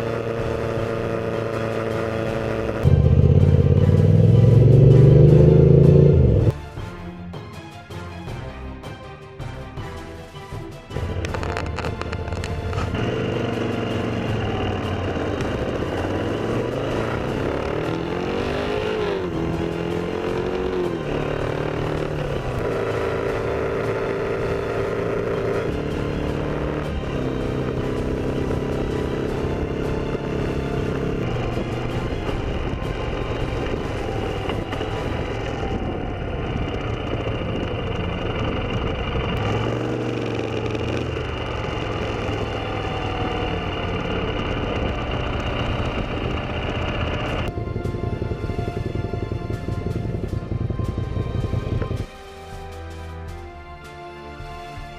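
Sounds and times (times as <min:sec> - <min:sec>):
motorcycle engine accelerating: 0:00.0 - 0:06.6, 0:10.9 - 0:52.2
road and wind noise: 0:00.0 - 0:06.6, 0:10.9 - 0:54.9.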